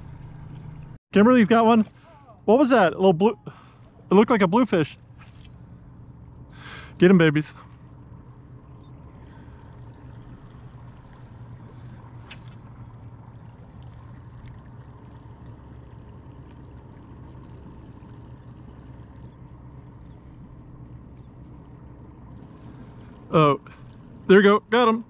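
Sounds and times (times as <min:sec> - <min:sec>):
boat motor humming: 0:00.0 - 0:25.0
water trickling: 0:01.6 - 0:25.0.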